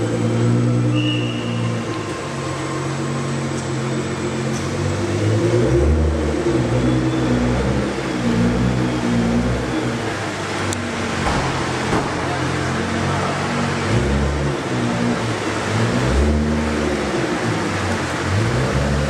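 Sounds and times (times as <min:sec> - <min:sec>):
car engine at low revs: 0:00.0 - 0:19.0
deeper drone: 0:00.0 - 0:19.0.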